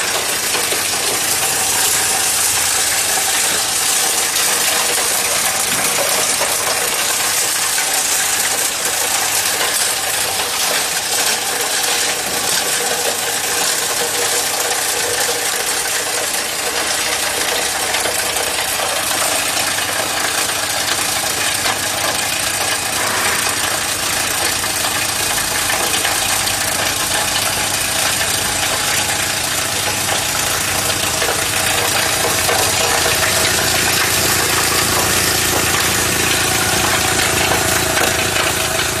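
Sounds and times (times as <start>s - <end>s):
granulator running loudly: 0.0s - 39.0s.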